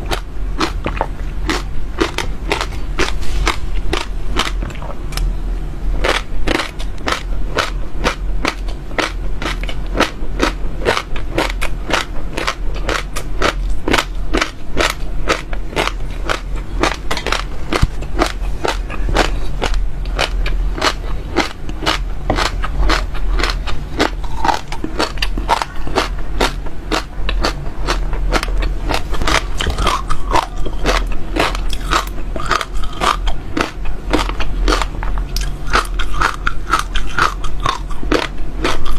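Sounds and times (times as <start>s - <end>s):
seeds crunching while chewed: 0.0s - 5.3s, 6.0s - 38.9s.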